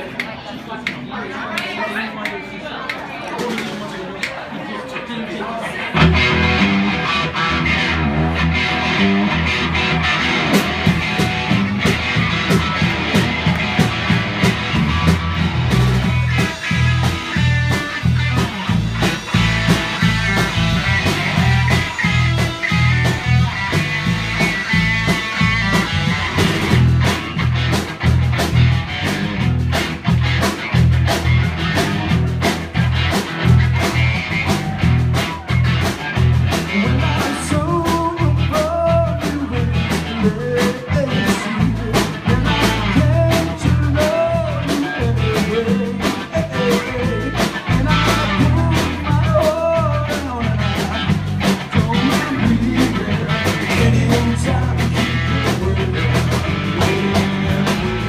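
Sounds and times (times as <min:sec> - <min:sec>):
electric bass: 0:05.9 - 0:58.0
electric guitar: 0:05.9 - 0:58.0
drum kit beat: 0:06.0 - 0:58.0.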